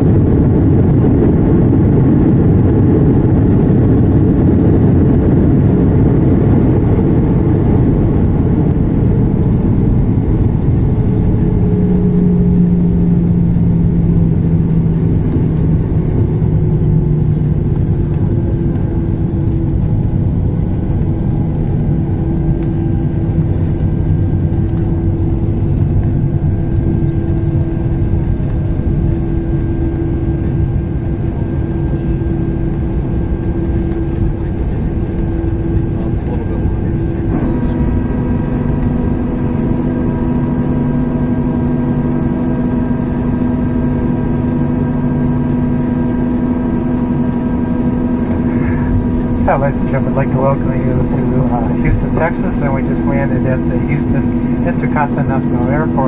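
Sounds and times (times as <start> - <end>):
airliner cabin rumble: 0.0 - 56.0
high engine tone: 0.0 - 56.0
low engine hum: 0.0 - 56.0.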